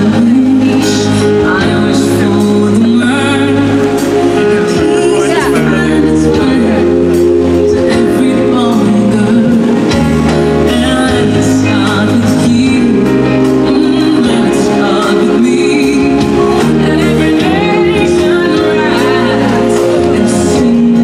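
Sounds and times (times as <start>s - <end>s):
holiday music with singing: 0.0s - 21.0s.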